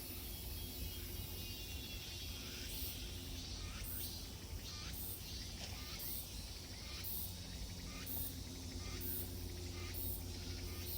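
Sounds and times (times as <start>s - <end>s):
cicadas buzzing drone: 0.0s - 10.9s
shrill cicada pulse: 0.0s - 10.9s.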